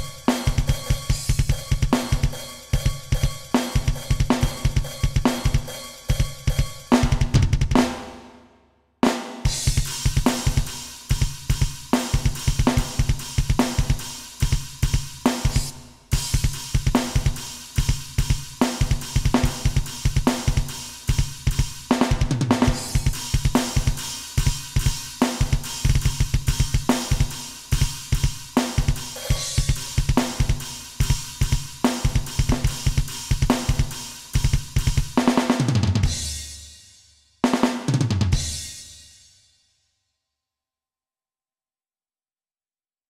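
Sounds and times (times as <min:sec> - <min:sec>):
electronic drum kit metal beat: 0:00.0 - 0:08.4, 0:09.0 - 0:36.8, 0:37.4 - 0:39.1.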